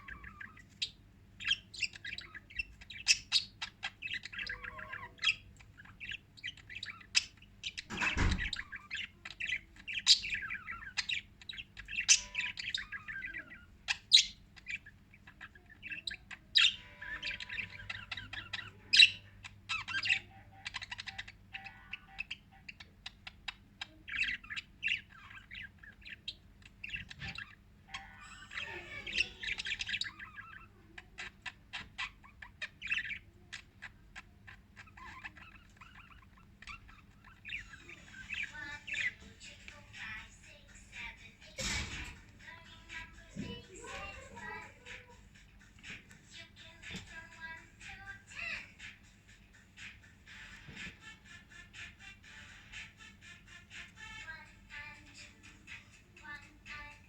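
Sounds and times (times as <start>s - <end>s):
lovebirds chirping and squawking: 0.0s - 57.0s.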